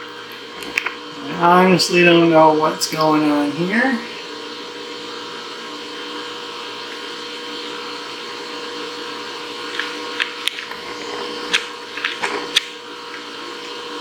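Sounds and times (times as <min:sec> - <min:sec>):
milling machine hum and whine: 0:00.0 - 0:14.0.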